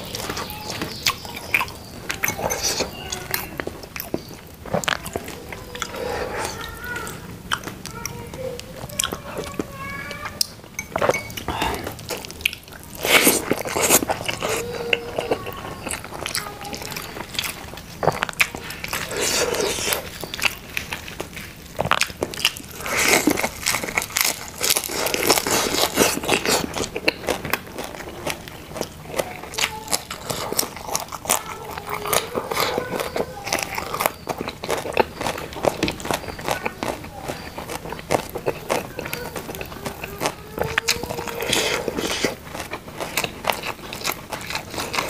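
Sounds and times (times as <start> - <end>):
person chewing and crunching: 0.0 - 45.0.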